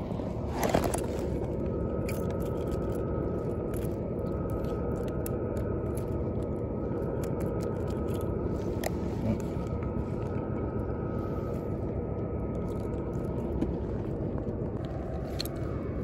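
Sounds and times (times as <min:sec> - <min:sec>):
faint hum: 0:00.0 - 0:16.0
low background rumble: 0:00.0 - 0:16.0.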